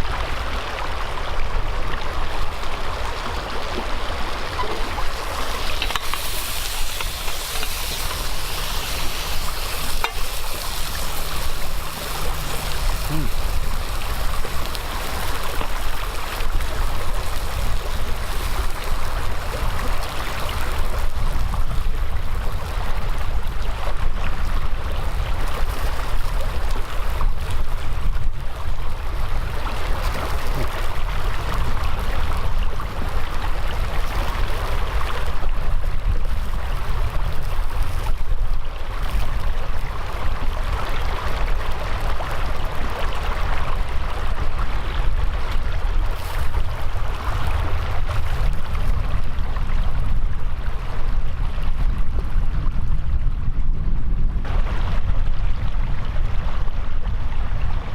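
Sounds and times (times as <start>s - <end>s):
mountain stream rushing: 0.0s - 51.5s.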